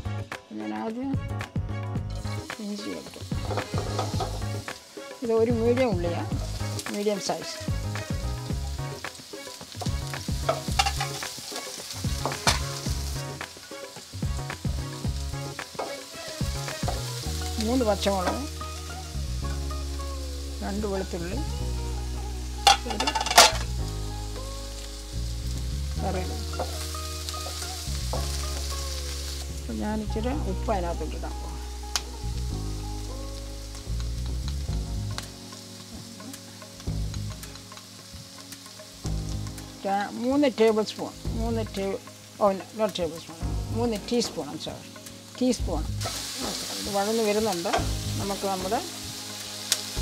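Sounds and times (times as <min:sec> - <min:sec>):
background music: 0:00.0 - 0:50.0
vegetables sizzling in oil: 0:02.0 - 0:50.0.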